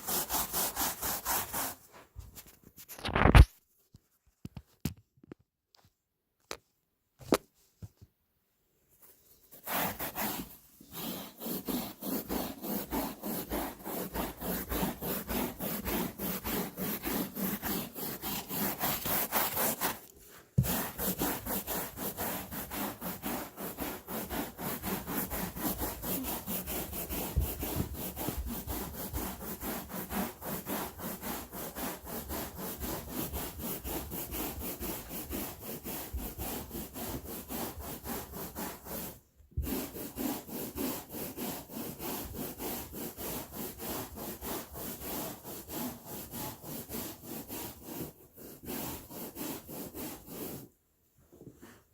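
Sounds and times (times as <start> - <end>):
brush scrubbing carpet: 0.0 - 2.0, 9.0 - 50.7.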